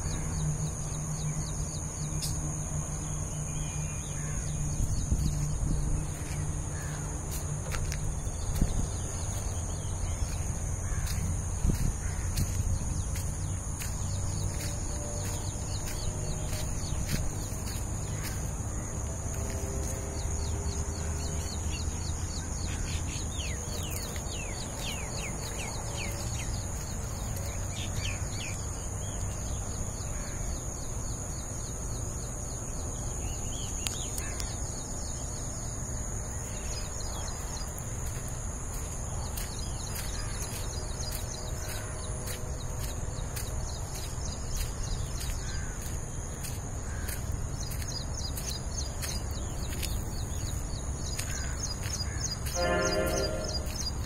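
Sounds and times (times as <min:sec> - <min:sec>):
birds chirping: 0:00.0 - 0:30.5, 0:36.2 - 0:54.0.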